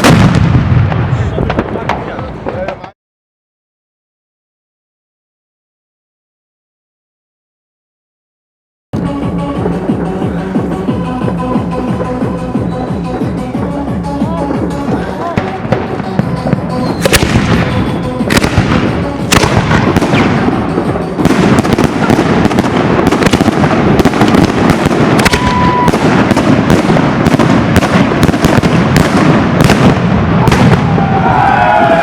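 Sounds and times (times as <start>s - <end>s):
fireworks banging and crackling: 0.0s - 3.0s, 9.0s - 31.8s.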